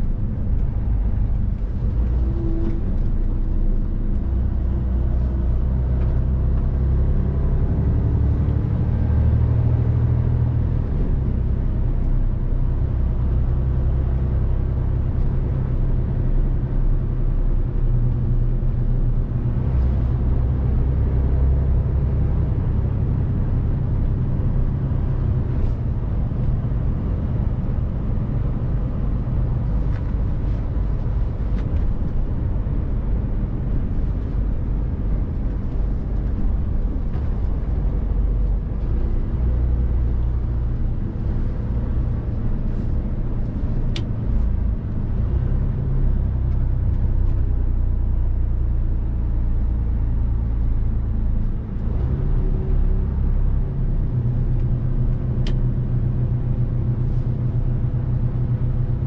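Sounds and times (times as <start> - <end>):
truck diesel engine rumble: 0.0 - 59.0.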